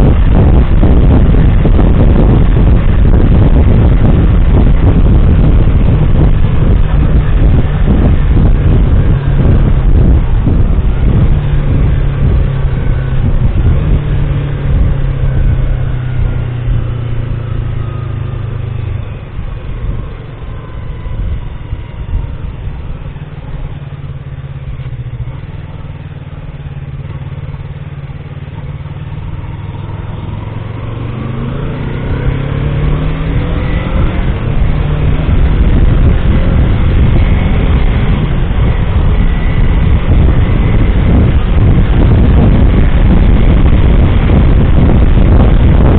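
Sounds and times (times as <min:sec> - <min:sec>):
road noise: 0:00.0 - 0:45.9
vehicle engine: 0:00.0 - 0:45.9.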